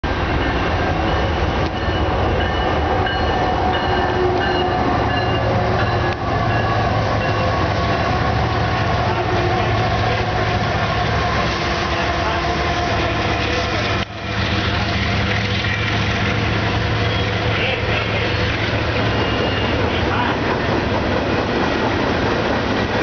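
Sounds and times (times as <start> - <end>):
wheels rumbling on rail: 0.0 - 23.0.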